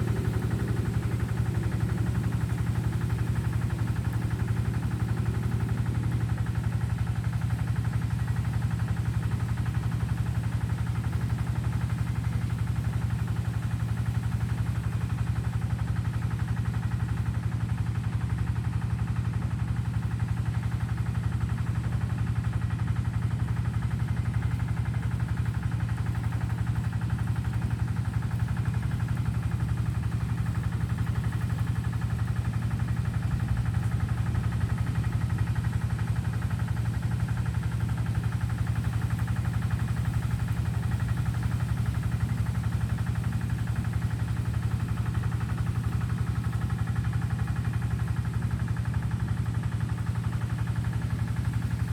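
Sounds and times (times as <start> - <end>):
low pulsing engine-like hum: 0.0 - 51.9.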